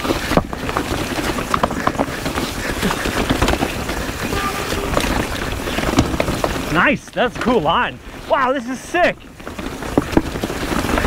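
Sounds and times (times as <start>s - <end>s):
bike rattling and clattering: 0.0s - 11.0s
tyre noise rushing: 0.0s - 11.0s.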